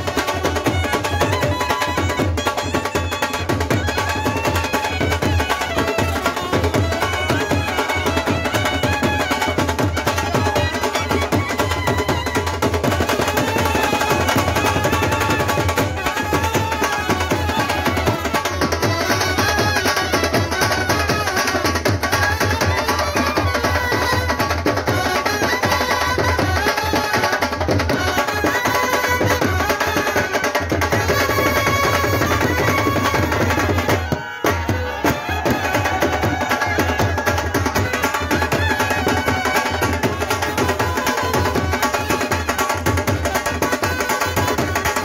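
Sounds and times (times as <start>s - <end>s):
band playing held melody: 0.0s - 45.0s
dhol drumming: 0.0s - 45.0s.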